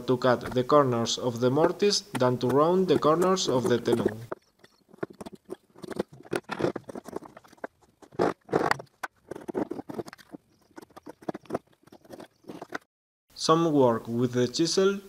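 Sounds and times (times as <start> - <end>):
wood chisel scraping and cutting: 0.3 - 12.9.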